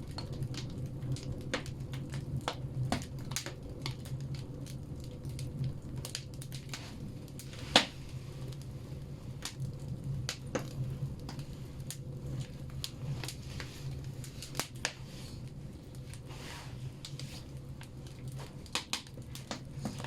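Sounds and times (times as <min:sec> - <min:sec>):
loud snap of burning wood: 0:00.0 - 0:20.0
low steady rumble: 0:00.0 - 0:20.0
wood fire crackling and popping: 0:00.0 - 0:20.0.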